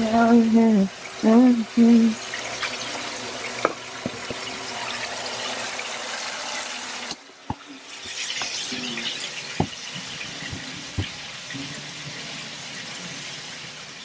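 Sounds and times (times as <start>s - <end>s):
chicken frying in hot oil: 0.0s - 14.0s
pot boiling: 0.0s - 14.0s.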